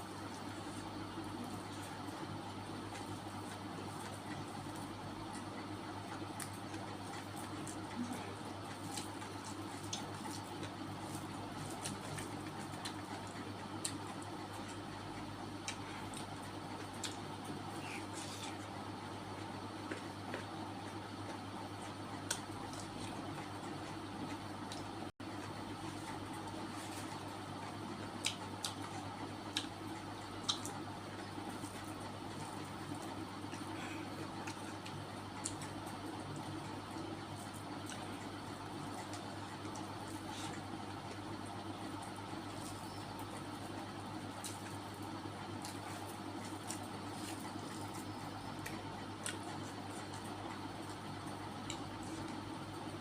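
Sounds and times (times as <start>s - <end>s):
low room hum: 0.0s - 53.0s
person chewing wetly: 6.1s - 24.9s, 25.8s - 52.8s.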